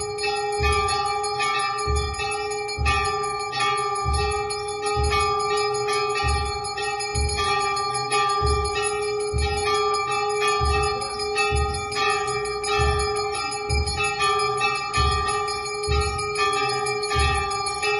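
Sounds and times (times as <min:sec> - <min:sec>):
low drum beat: 0:00.0 - 0:17.9
temple bells ringing: 0:00.0 - 0:17.9.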